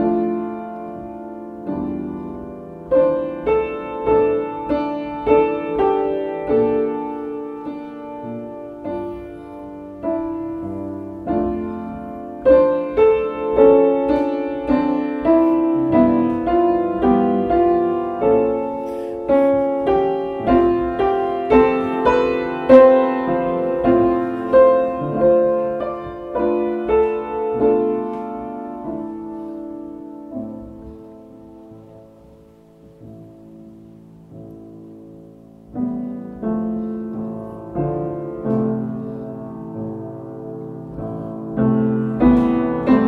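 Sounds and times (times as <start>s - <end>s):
slow solo piano melody: 0.0s - 43.0s.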